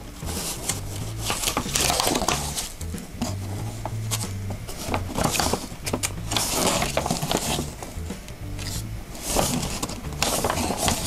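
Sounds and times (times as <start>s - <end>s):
paper rustling and crinkling: 0.0s - 8.0s, 8.6s - 11.0s
background music with bass line: 0.0s - 11.0s.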